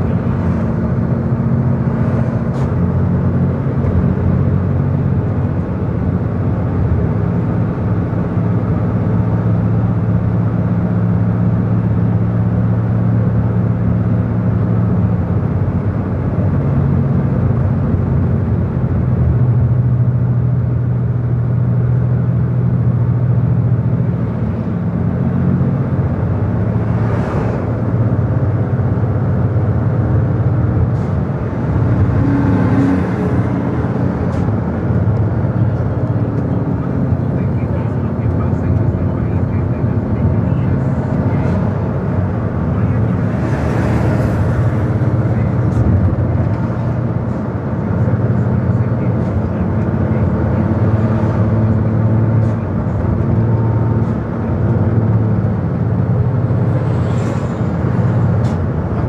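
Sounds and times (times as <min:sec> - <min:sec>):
road noise: 0:00.0 - 0:59.0
vehicle engine hum: 0:00.0 - 0:59.0.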